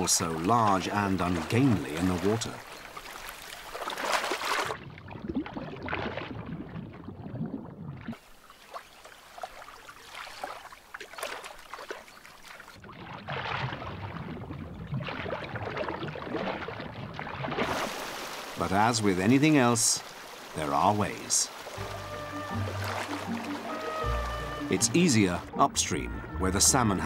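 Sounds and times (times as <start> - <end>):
water splashing and sloshing: 0.0 - 27.0.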